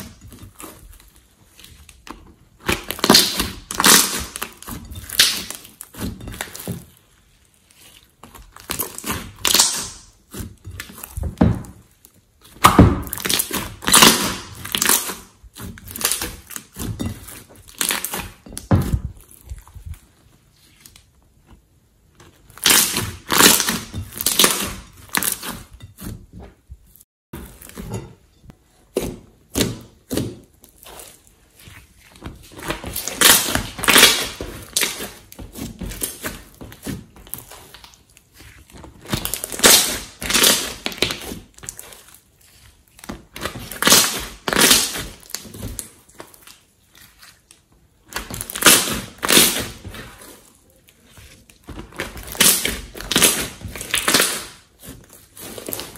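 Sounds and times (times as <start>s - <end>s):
slime squelching: 0.0s - 28.0s, 28.6s - 55.9s.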